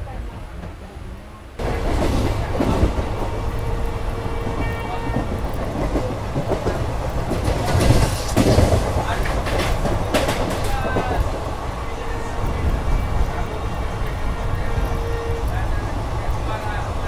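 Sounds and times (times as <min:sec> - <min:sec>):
clickety-clack of rails: 0:00.0 - 0:17.0
train wheels rumbling on rails: 0:00.0 - 0:17.0.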